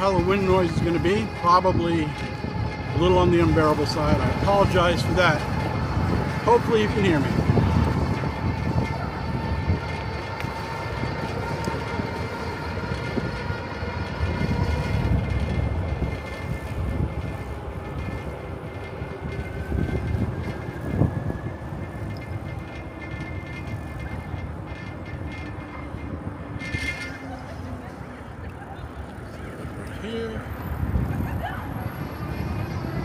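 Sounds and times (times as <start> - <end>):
faint steady tones: 0.0 - 33.0
wind buffeting microphone: 0.0 - 33.0.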